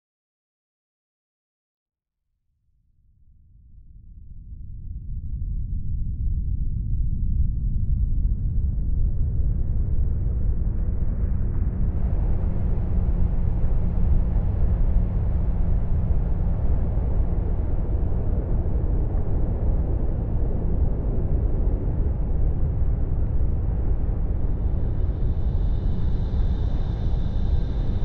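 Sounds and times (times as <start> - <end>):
deep rumble of blizzard wind: 3.6 - 28.0.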